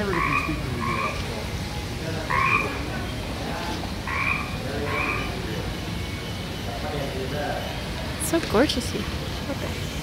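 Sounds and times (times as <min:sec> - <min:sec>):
frogs croaking: 0:00.0 - 0:10.0.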